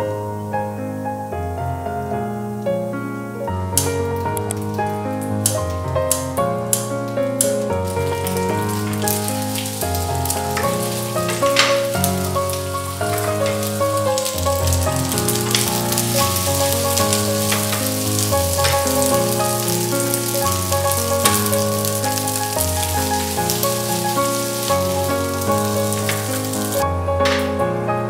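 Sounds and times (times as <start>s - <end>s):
background music: 0.0s - 28.0s
food sizzling in frying pan: 3.8s - 26.8s.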